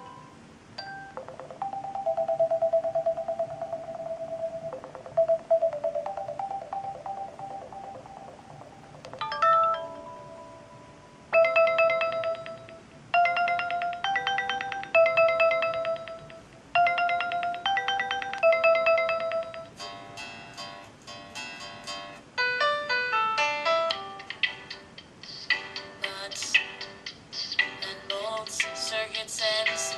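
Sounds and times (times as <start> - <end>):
phone ringtone melodies: 0.0 - 29.9.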